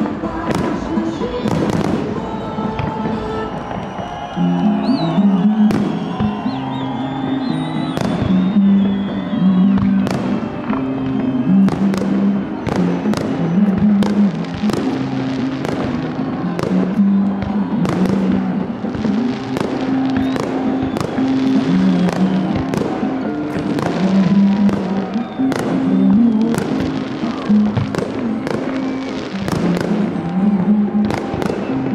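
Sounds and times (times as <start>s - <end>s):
music with long held notes: 0.0s - 31.9s.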